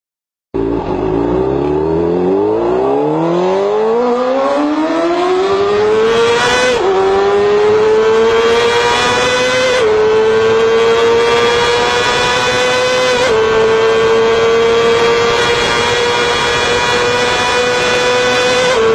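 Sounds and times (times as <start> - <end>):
motorcycle engine accelerating: 0.6 - 18.9.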